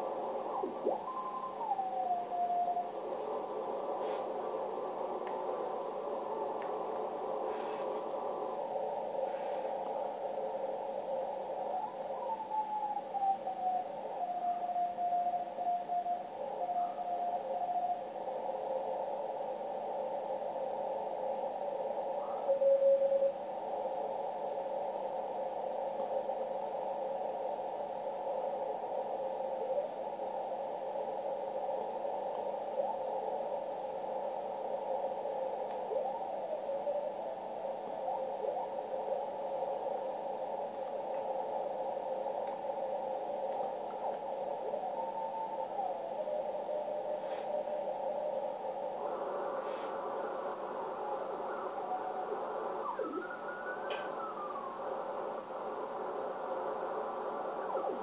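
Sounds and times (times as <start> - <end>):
radio band hiss: 0.0 - 58.0.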